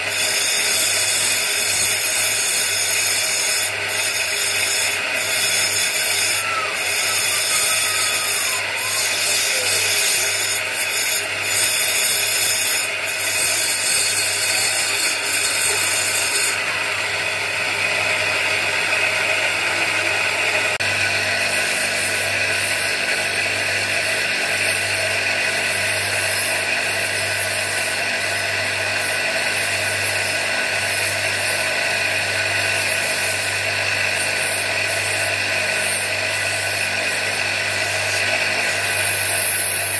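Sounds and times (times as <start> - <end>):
bench grinder motor hum: 0.0 - 39.9
stone rasping on grinding wheel: 0.0 - 39.9.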